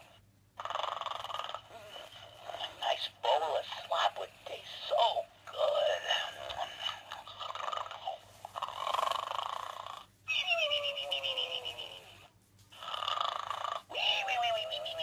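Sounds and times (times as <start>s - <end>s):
toy pig snoring: 0.0s - 15.0s.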